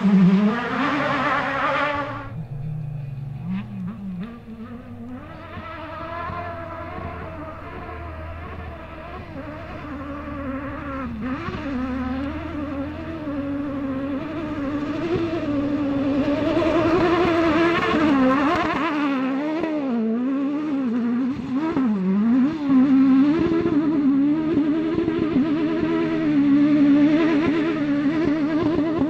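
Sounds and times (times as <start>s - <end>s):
rally car engine revving hard: 0.0s - 29.0s.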